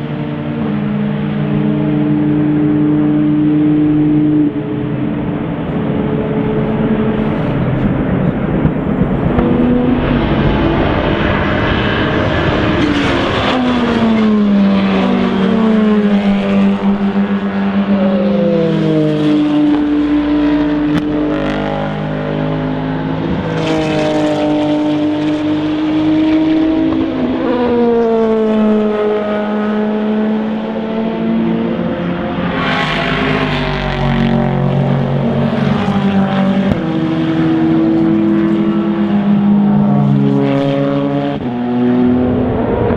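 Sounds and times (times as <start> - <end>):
race car engines passing: 0.0 - 42.9.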